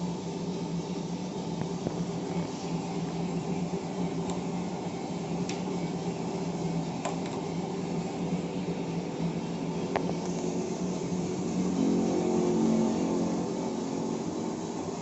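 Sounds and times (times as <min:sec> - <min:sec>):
roasting machine motor hum: 0:00.0 - 0:15.0.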